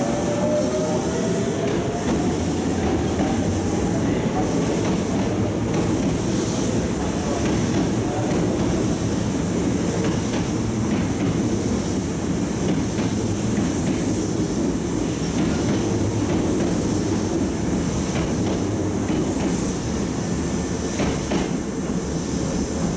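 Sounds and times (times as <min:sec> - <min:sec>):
train wheels rumbling on rail: 0:00.0 - 0:22.9.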